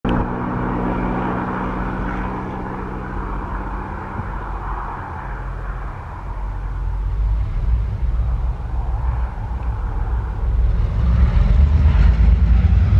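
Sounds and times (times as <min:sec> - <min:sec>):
deep train rumble: 0:00.1 - 0:12.9
diesel locomotive engine drone: 0:00.1 - 0:12.9.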